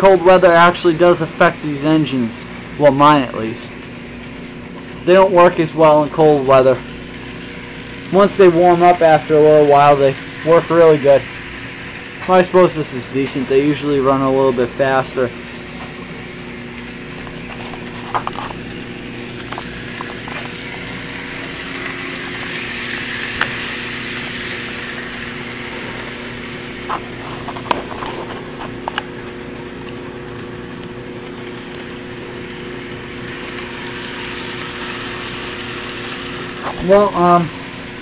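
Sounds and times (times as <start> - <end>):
model train motor hum: 0.0 - 38.0
wheels rattling on rails: 0.0 - 38.0.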